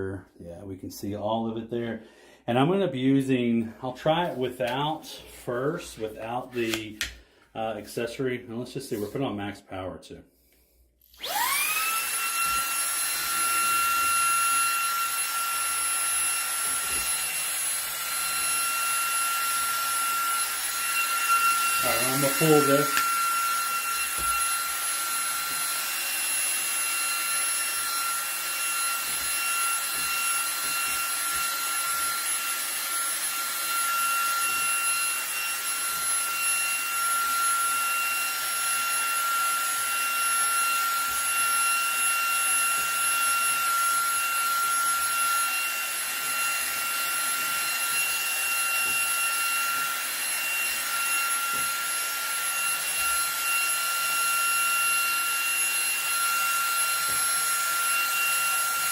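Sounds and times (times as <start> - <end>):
handheld vacuum running: 11.0 - 58.9.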